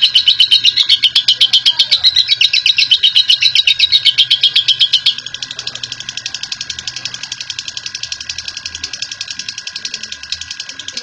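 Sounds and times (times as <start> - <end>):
lovebird chattering: 0.0 - 11.0.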